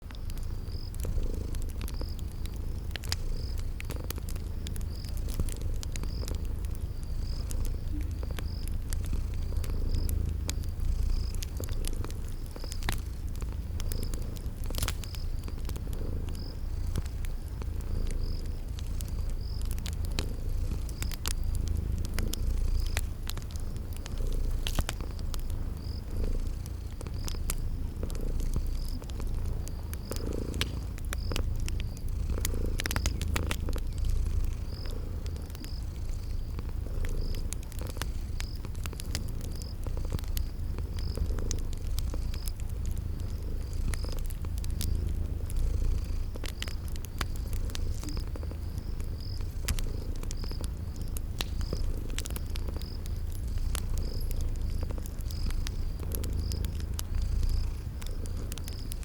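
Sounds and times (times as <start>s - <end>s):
cat purring: 0.0s - 59.0s
crickets chirping: 0.0s - 59.0s
wood fire crackling: 0.0s - 59.0s.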